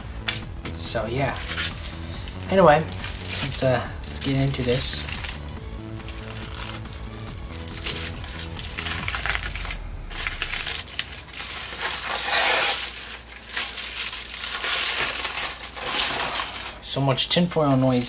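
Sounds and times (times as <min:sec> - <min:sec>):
aluminium foil crinkling: 0:00.2 - 0:18.0.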